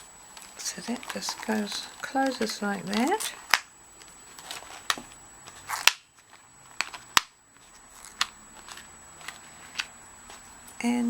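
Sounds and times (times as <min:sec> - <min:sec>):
paper rustling: 0:00.0 - 0:10.7.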